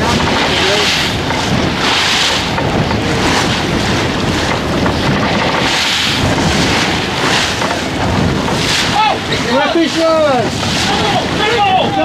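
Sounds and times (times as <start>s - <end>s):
strong wind buffeting microphone: 0.0s - 12.0s
waves rushing against boat: 0.0s - 12.0s.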